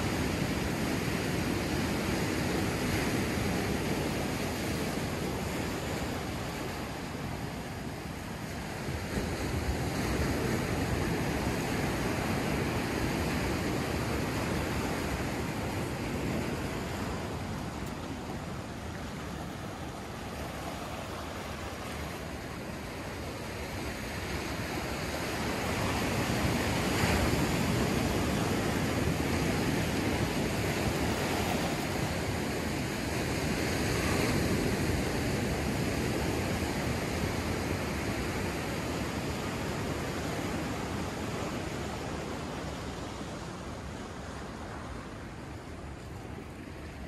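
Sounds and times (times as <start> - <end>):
ocean surf breaking on beach: 0.0 - 47.0.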